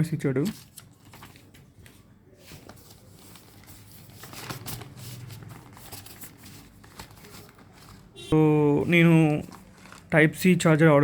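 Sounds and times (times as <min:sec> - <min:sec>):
paper and cardboard rustling: 0:00.3 - 0:08.2, 0:08.8 - 0:10.6.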